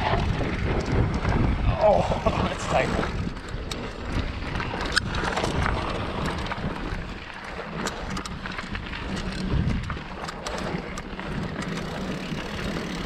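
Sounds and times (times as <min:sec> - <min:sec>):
bike clicking and rattling: 0:00.0 - 0:13.0
tyre noise on dirt: 0:00.0 - 0:13.0
wind rumble on microphone: 0:00.0 - 0:13.0.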